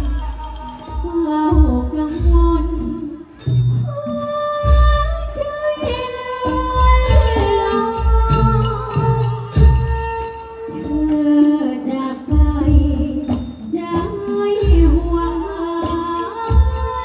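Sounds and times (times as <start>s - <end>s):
woman singing through pa: 0.0s - 10.1s, 10.7s - 17.0s
backing music with bass thumps: 0.0s - 11.6s, 12.3s - 17.0s.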